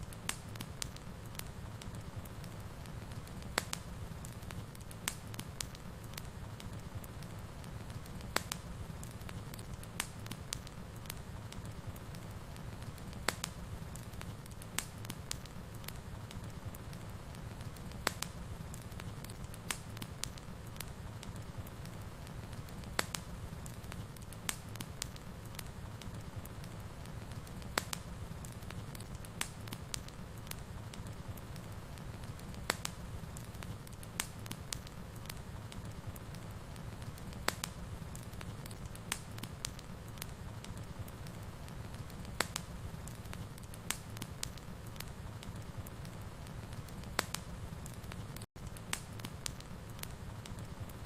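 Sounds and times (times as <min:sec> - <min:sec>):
fire crackling and popping: 0:00.0 - 0:51.0
low rumble of fire: 0:00.0 - 0:51.0.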